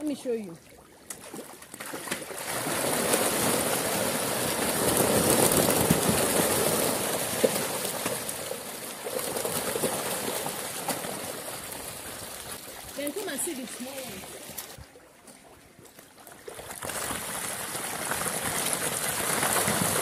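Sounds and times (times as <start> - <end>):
fish thrashing and splashing water: 0.6 - 15.0, 15.9 - 20.0.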